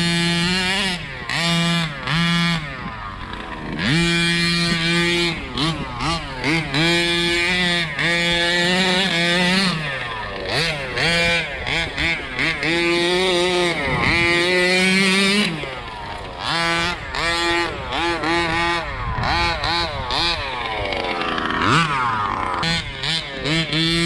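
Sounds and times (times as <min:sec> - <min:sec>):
small two-stroke engine revving: 0:00.0 - 0:24.0.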